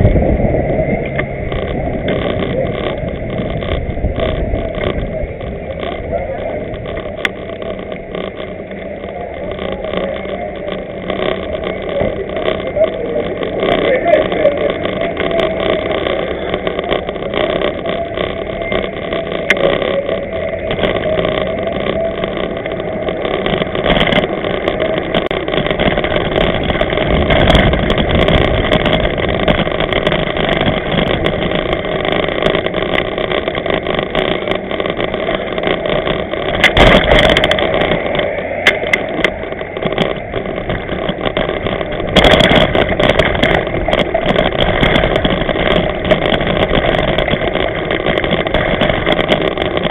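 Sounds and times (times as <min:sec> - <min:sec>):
bicycle camera rumbling: 0:00.0 - 0:49.9
small rattles and clicks: 0:00.0 - 0:49.9.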